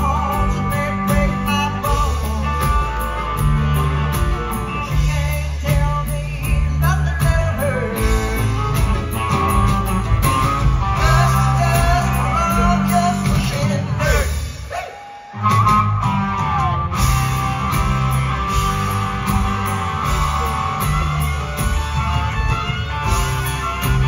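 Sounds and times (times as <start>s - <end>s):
strong bass line: 0.0s - 14.6s, 15.4s - 24.0s
live rock band playing: 0.0s - 24.0s.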